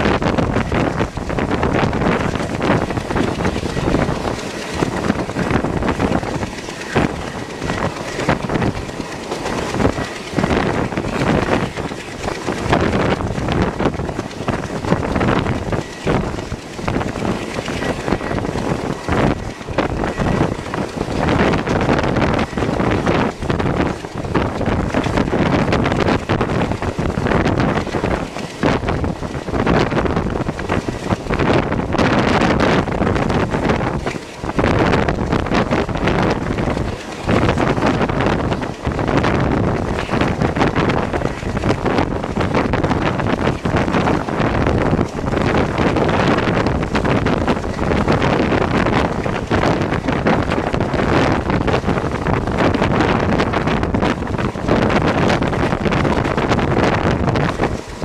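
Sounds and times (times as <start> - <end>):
train running noise: 0.0 - 58.0
wind buffeting microphone: 0.0 - 58.0.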